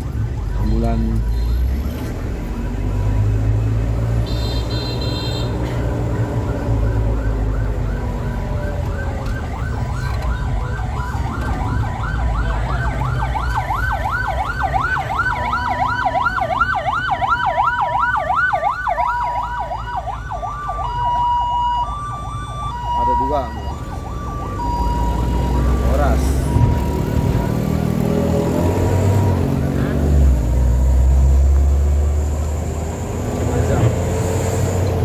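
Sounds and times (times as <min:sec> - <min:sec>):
ambulance siren: 0:00.0 - 0:35.0
bus engine rumble: 0:01.1 - 0:35.0.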